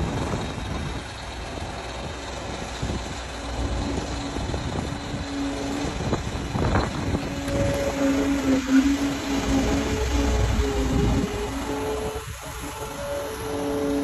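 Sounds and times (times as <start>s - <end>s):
excavator diesel engine running: 0.0s - 14.0s
steady hum: 0.0s - 14.0s.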